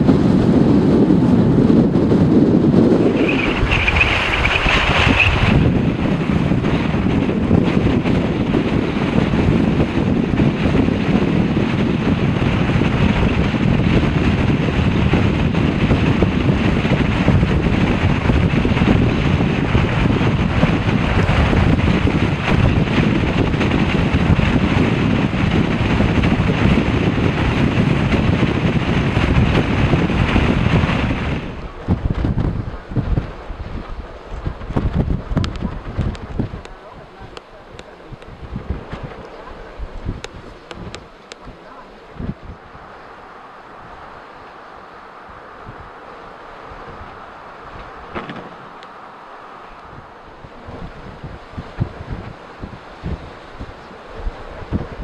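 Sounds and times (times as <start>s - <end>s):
strong wind buffeting microphone: 0.0s - 55.0s.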